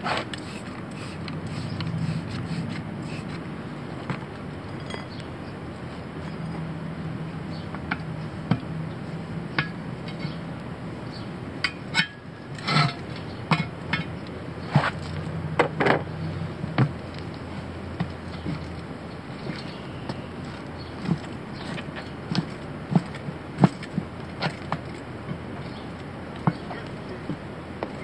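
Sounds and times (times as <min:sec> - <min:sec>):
tire iron clinking on wheel rim: 0:04.6 - 0:28.0.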